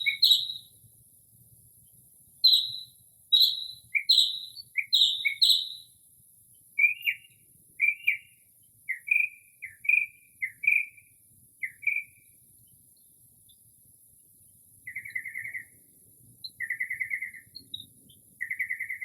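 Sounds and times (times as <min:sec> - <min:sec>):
bird singing phrases: 0:00.0 - 0:00.8, 0:01.8 - 0:13.8, 0:14.8 - 0:19.0
faint high hiss: 0:00.0 - 0:19.0.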